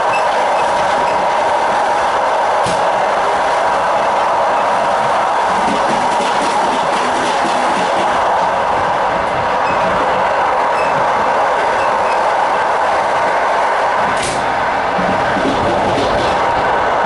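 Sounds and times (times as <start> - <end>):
train wheels on rail clickety-clack: 0.0 - 17.0.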